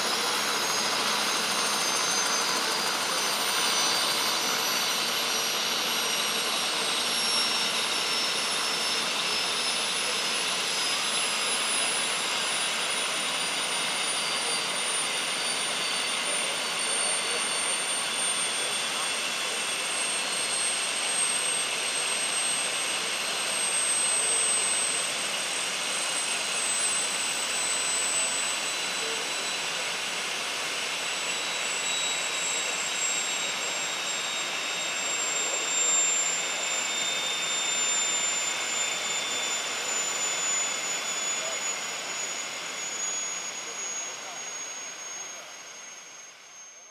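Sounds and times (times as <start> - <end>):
helicopter rotor rushing and whining: 0.0 - 46.9.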